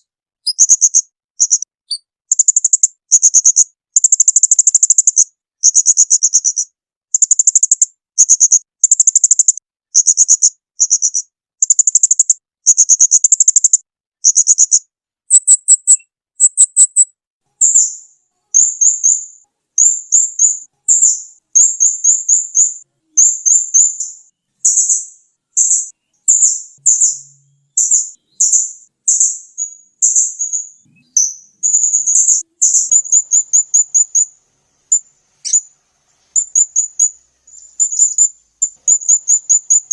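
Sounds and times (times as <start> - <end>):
songbird singing buzzy trills: 0.0 - 39.9.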